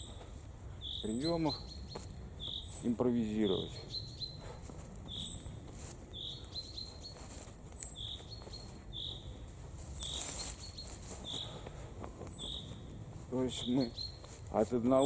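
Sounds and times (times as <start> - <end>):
small bird chirping: 0.0 - 4.4, 5.0 - 15.0
low outdoor background noise: 0.0 - 15.0.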